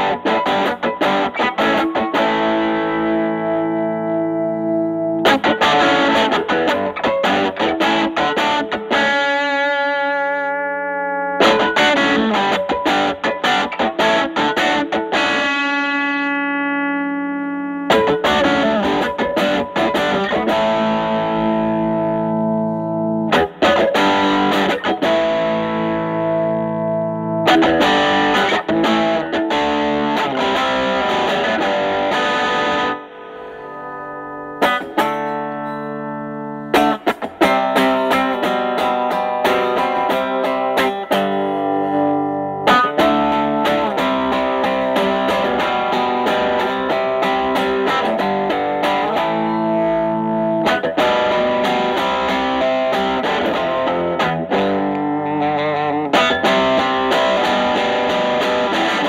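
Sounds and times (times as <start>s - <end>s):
overdriven electric guitar: 0.0s - 59.0s.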